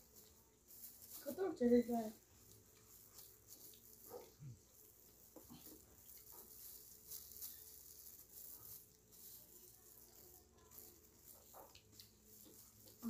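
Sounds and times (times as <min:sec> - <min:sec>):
chewing: 0:02.4 - 0:13.0.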